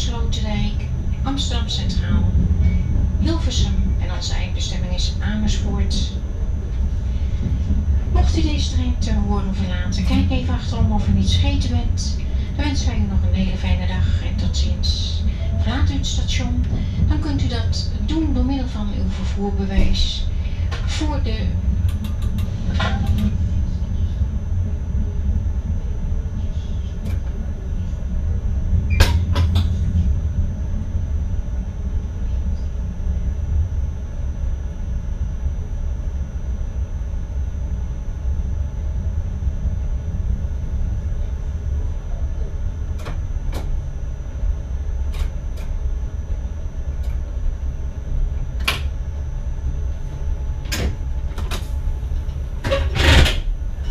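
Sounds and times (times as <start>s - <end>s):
train cab low rumble: 0.0s - 53.9s.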